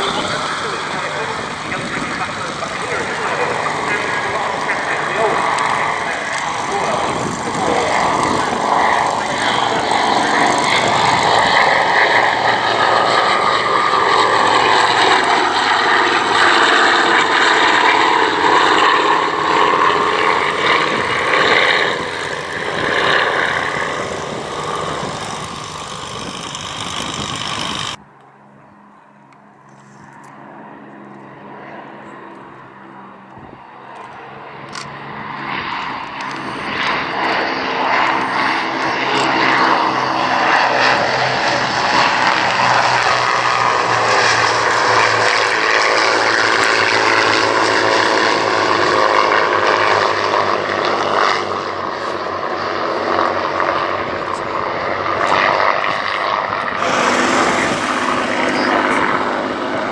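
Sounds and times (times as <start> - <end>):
propeller aircraft engines: 0.0 - 59.9.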